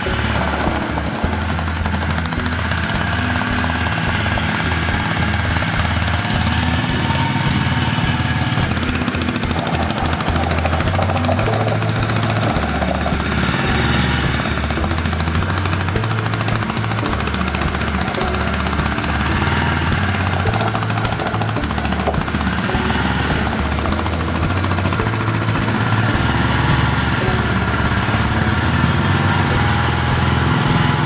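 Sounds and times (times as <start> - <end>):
music with stepping bass line: 0.0 - 31.0
small engine running: 0.0 - 31.0.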